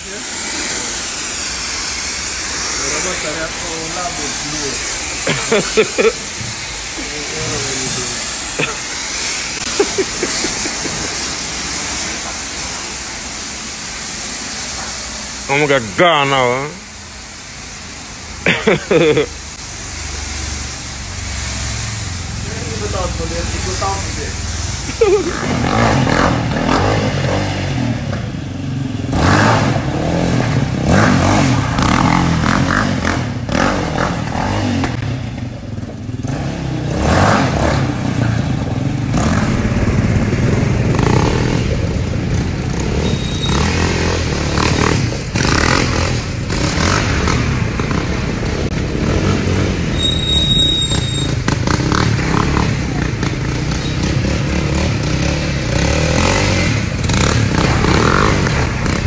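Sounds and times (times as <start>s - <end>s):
quad engine revving: 0.0s - 13.1s, 18.5s - 59.0s.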